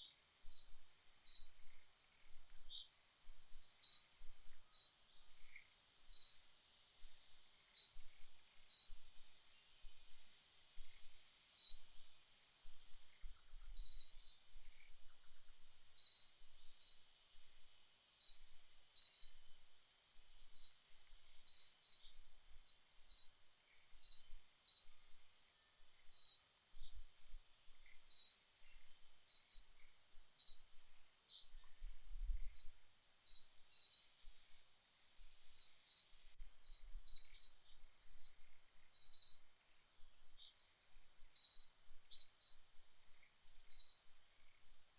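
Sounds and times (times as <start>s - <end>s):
small bird chirping: 0.0s - 17.4s, 18.1s - 19.7s, 20.3s - 44.9s
faint steady high hiss: 0.0s - 44.9s.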